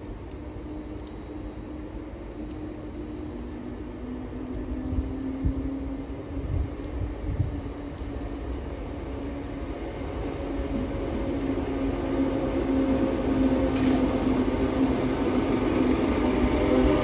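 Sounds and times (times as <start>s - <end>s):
low rumble of train: 0.0s - 17.0s
train machine hum: 0.0s - 17.0s.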